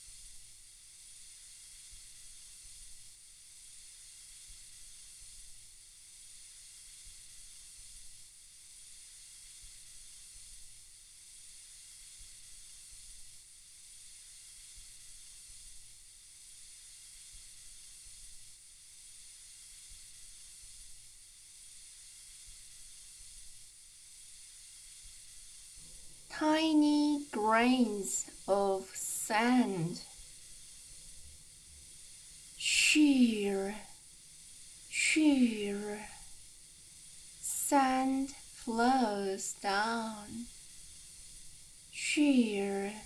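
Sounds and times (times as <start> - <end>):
soft white-noise hiss: 0.0 - 43.0.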